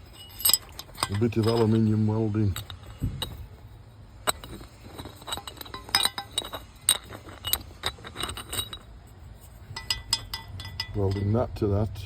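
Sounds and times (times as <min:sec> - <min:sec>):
metal parts clinking: 0:00.0 - 0:11.6.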